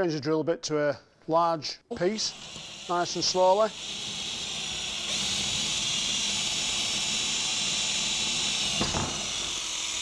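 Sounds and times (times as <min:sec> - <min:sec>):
cordless drill boring into wood: 0:01.9 - 0:10.0.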